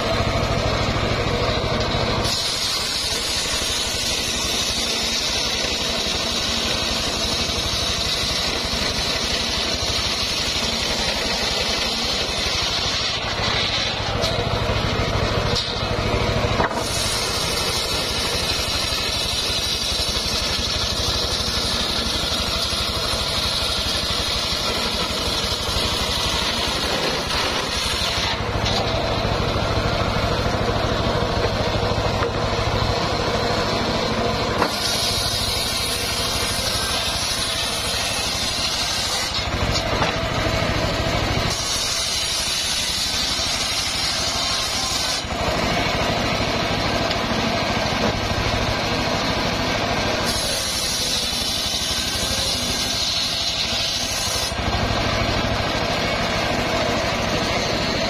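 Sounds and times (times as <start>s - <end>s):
circular sawmill sawing timber: 0.0s - 58.0s.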